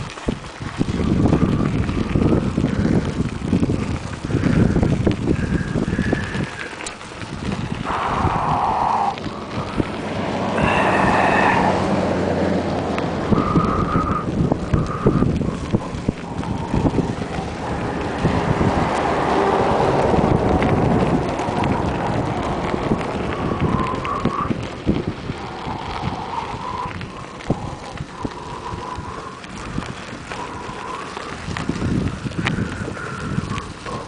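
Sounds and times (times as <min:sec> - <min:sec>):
bike rattling and clattering: 0:00.0 - 0:34.0
bike tyres crunching on gravel: 0:00.0 - 0:34.0
wind buffeting microphone: 0:00.0 - 0:34.0.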